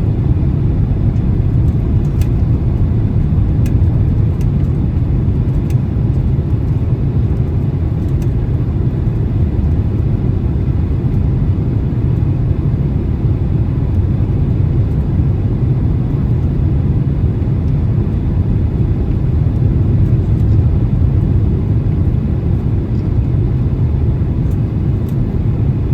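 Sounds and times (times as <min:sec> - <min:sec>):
airplane cabin engine roar: 0:00.0 - 0:25.9.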